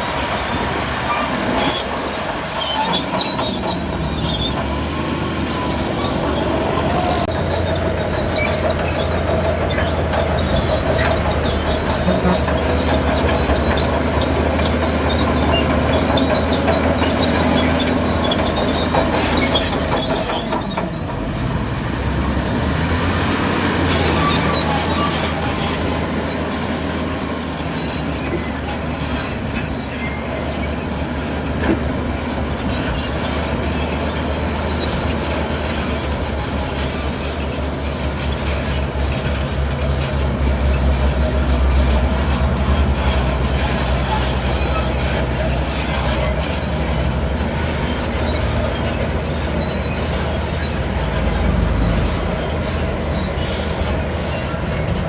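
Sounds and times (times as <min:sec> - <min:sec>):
bulldozer diesel engine running: 0:00.0 - 0:55.0
steel tracks squealing and clanking: 0:00.0 - 0:55.0.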